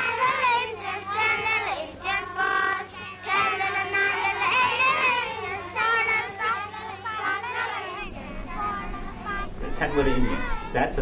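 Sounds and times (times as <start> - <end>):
children singing together: 0.0 - 11.0
low steady hum: 0.0 - 11.0.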